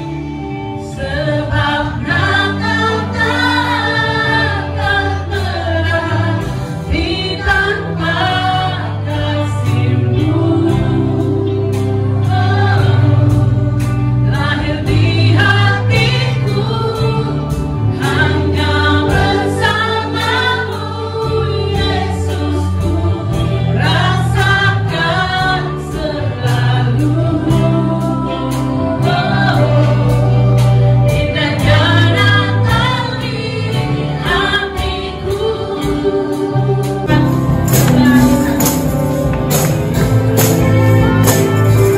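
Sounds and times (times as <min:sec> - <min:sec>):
church band playing: 0:00.0 - 0:41.9
group of voices singing: 0:00.0 - 0:41.9.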